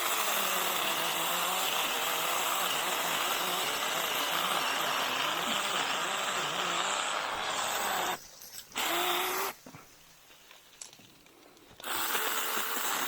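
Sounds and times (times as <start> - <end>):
mini chainsaw cutting wood: 0.0 - 9.6, 11.8 - 13.0.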